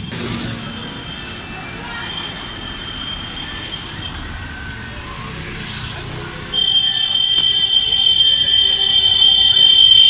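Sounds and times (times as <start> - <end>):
traffic noise: 0.0 - 10.0
loud high-pitched tone: 0.3 - 10.0.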